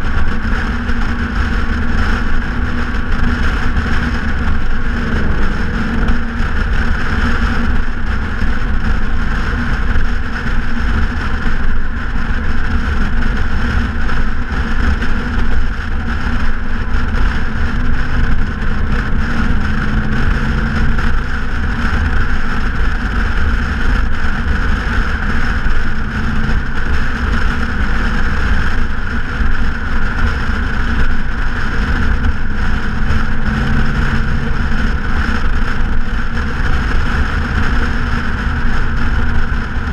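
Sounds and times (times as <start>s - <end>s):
car engine low rumble: 0.0s - 39.9s
wind noise: 0.0s - 39.9s.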